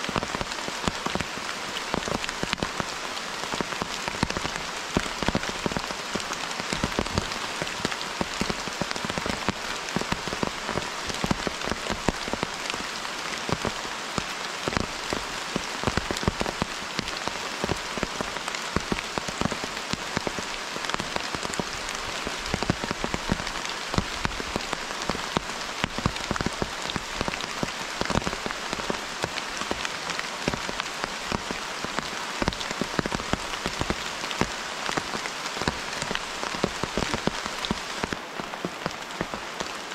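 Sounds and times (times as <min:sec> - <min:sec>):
steady rain hissing: 0:00.0 - 0:39.9
raindrops ticking close by: 0:00.1 - 0:39.9.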